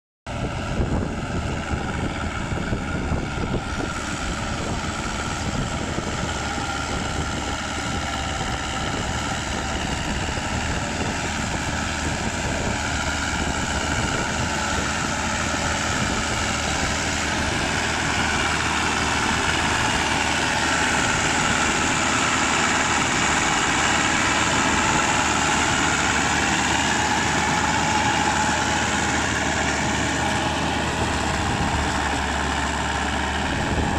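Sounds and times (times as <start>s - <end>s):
crawler tractor engine running: 0.3s - 33.9s.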